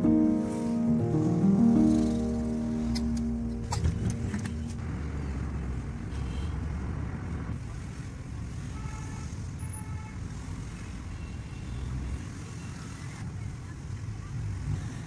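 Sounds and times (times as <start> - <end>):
faint city traffic: 0.0 - 15.0
car engine and tyre rumble: 0.2 - 15.0.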